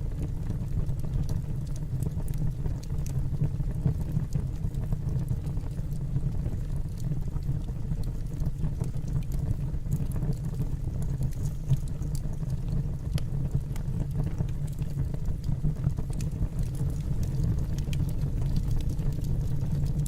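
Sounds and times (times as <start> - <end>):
fire crackling in a fireplace: 0.0 - 20.0.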